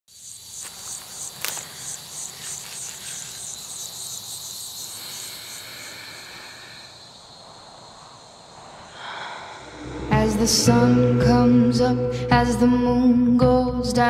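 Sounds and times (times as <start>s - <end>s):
insects chirping: 0.1s - 13.4s.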